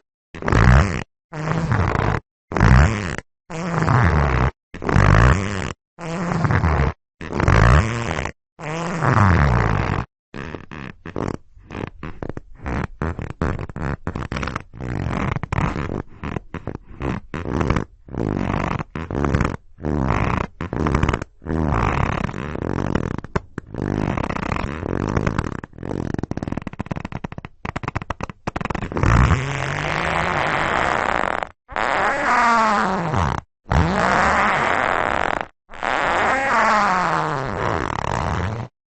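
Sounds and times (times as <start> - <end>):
leather chair creaking: 0.0 - 38.8.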